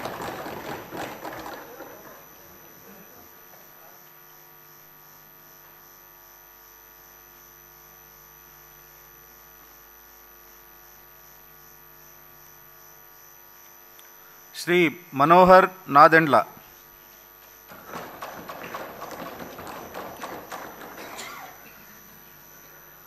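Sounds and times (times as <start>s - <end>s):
faint electrical mains hum: 0.0s - 23.0s.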